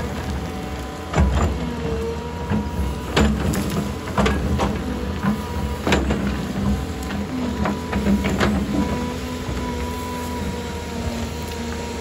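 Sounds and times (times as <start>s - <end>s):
excavator engine and hydraulics whine: 0.0s - 12.0s.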